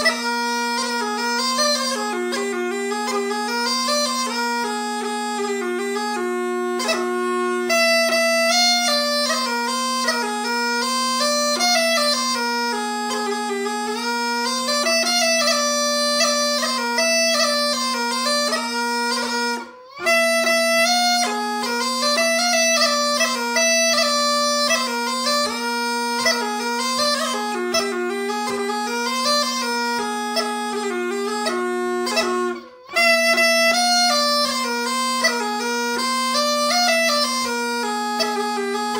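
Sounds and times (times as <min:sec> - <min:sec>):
bagpipe melody over drone: 0:00.0 - 0:38.9.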